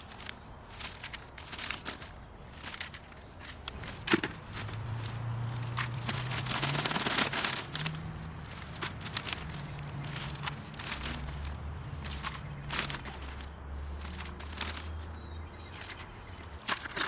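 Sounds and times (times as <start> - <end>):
potting soil rustling and scraping: 0.0 - 17.0.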